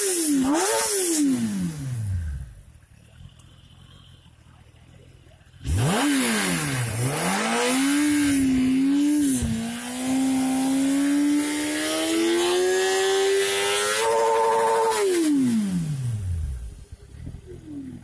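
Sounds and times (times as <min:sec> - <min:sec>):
motorcycle engine revving: 0:00.0 - 0:02.6, 0:05.4 - 0:18.0.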